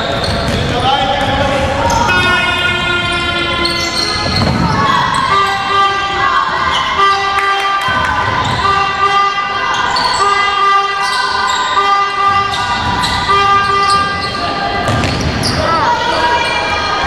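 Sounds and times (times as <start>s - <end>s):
indistinct voices: 0.0s - 17.0s.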